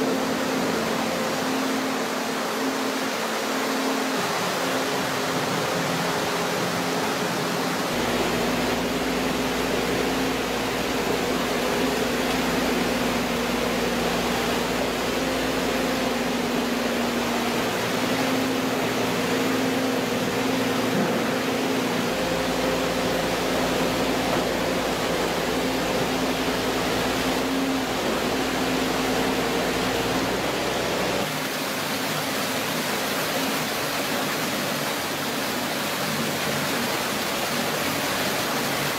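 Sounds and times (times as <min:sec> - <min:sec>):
motor and hydraulic pump whine: 0:00.0 - 0:38.9
water rushing: 0:00.0 - 0:38.9.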